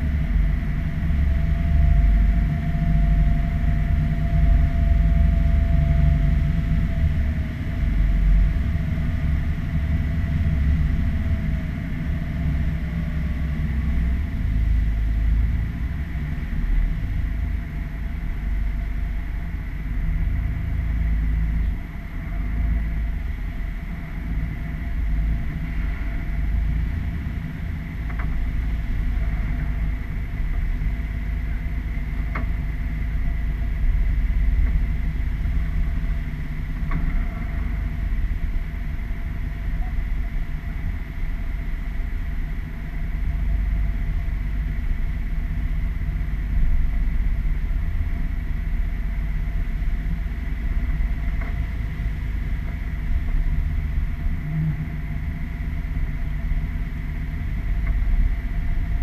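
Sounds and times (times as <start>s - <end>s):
boat engines rumbling: 0.0s - 59.0s.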